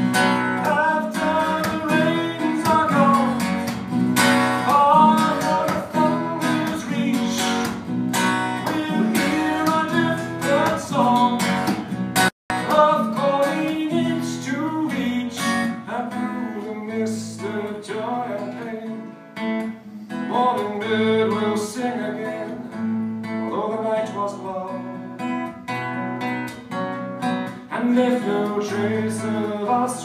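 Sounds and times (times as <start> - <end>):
acoustic guitar strummed and picked: 0.0 - 30.0.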